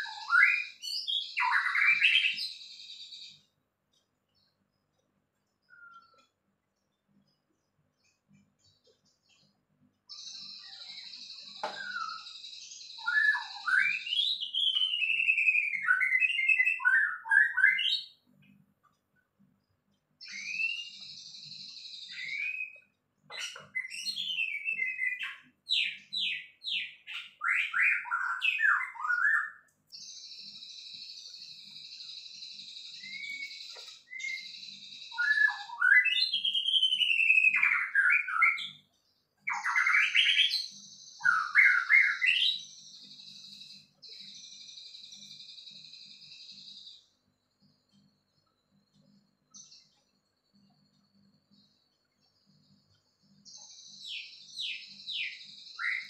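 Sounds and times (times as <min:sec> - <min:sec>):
songbird whistles and trills: 0:00.0 - 0:19.3, 0:20.1 - 0:56.0.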